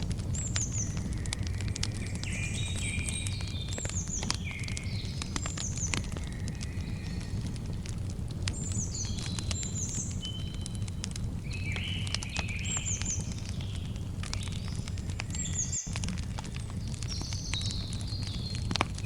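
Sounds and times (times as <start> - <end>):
campfire crackling and popping: 0.0 - 19.0
low fire rumble: 0.0 - 19.0
birds chirping: 0.2 - 19.0.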